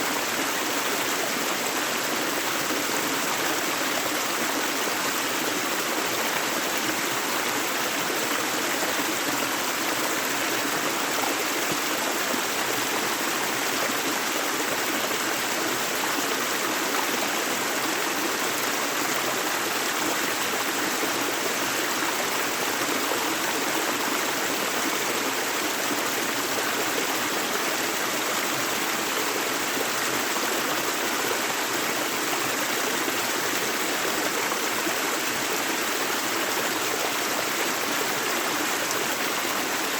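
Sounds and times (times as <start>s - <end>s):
river water rushing and babbling: 0.0s - 39.9s.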